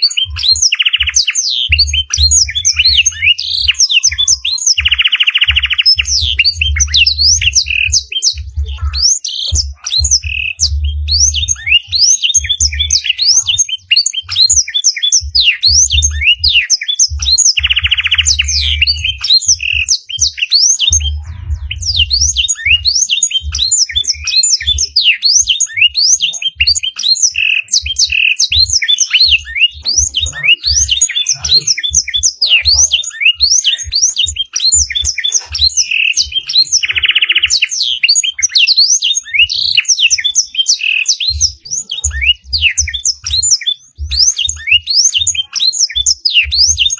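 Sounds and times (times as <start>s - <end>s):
canary singing: 0.0s - 46.9s
dull low thumps: 1.7s - 14.6s, 15.2s - 37.1s, 41.3s - 45.4s.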